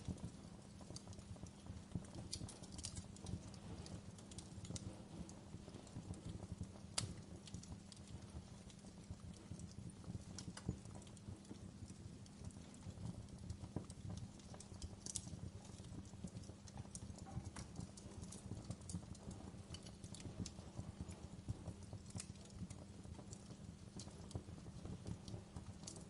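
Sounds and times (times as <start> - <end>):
low rumble of burning fire: 0.0 - 26.0
wood fire crackling: 0.0 - 26.0.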